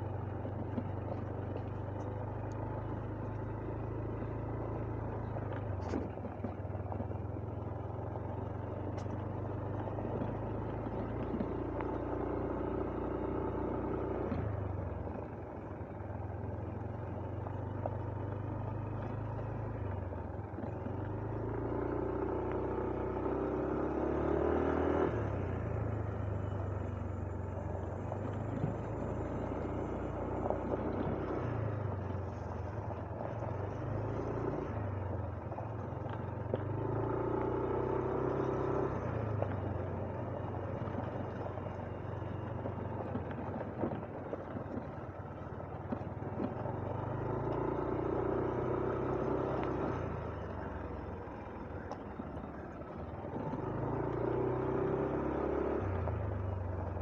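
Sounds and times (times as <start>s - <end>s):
motorcycle engine droning: 0.0s - 57.0s.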